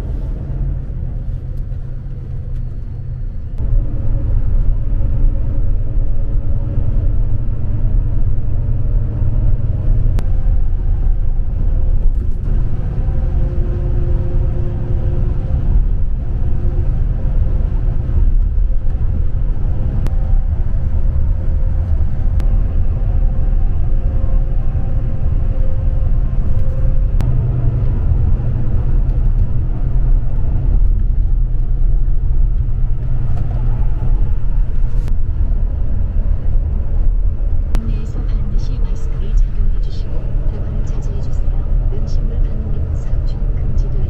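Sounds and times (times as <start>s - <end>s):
coach engine and road rumble: 0.0s - 44.0s.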